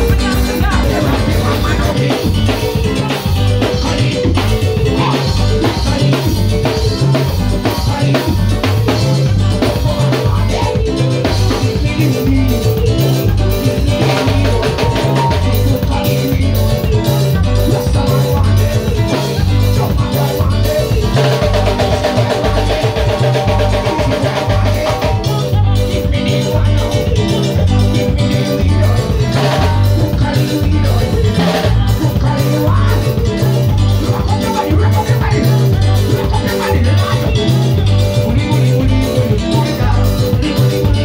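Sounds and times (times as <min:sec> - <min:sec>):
drum kit steady beat: 0:00.0 - 0:41.0
heavy repeating bass line: 0:00.0 - 0:41.0.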